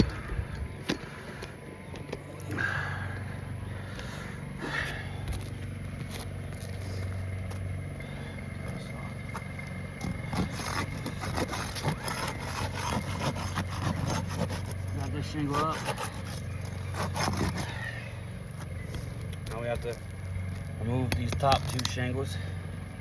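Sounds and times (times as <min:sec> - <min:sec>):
roof shingle crackling and scraping: 0:00.0 - 0:23.0
steady low hum: 0:00.0 - 0:23.0.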